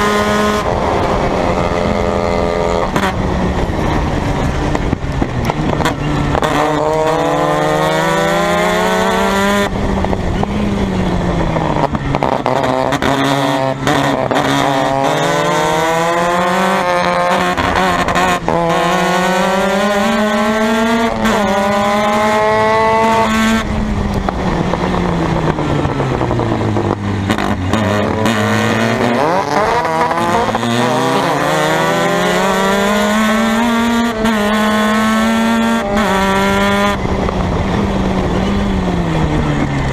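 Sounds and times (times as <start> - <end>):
race car engine shifting gears: 0.0 - 39.9.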